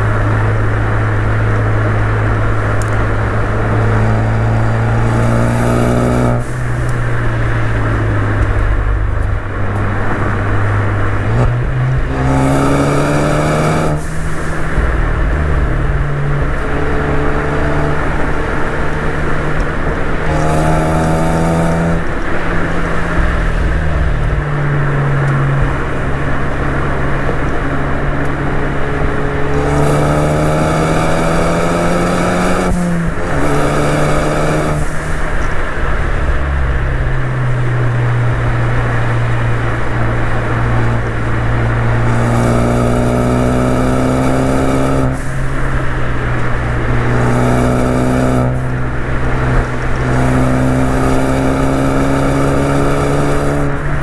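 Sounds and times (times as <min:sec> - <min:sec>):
car engine accelerating: 0:00.0 - 0:54.0
wind and road rumble: 0:00.0 - 0:54.0.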